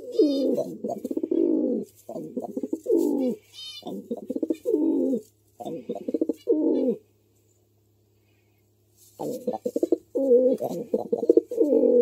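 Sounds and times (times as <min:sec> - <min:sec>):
pigeon cooing: 0:00.0 - 0:07.1, 0:09.2 - 0:12.0.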